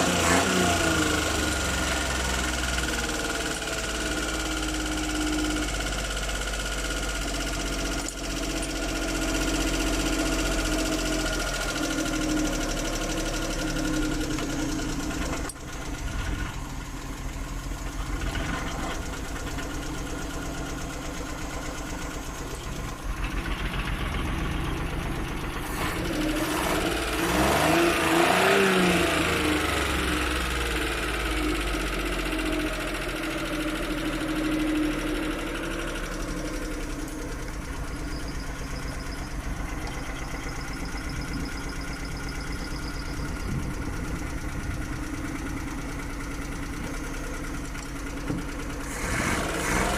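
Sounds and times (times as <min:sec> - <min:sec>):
engine running rough and misfiring: 0:00.0 - 0:49.9.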